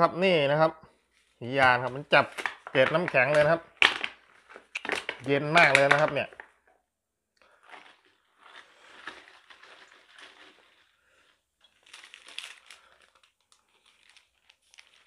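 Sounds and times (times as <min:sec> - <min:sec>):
plastic bottle crinkling: 0:01.5 - 0:06.7, 0:07.4 - 0:15.0.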